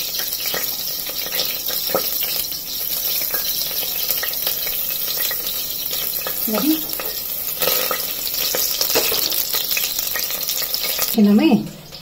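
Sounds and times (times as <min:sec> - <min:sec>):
hot oil sizzling in a pot: 0:00.0 - 0:12.0
small crackles and pops: 0:00.0 - 0:12.0.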